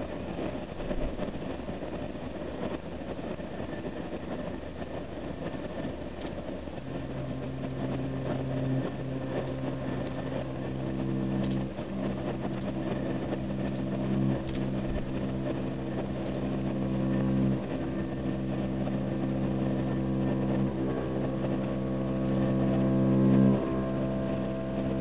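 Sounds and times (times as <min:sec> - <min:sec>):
train rumble from inside carriage: 0:00.0 - 0:25.0.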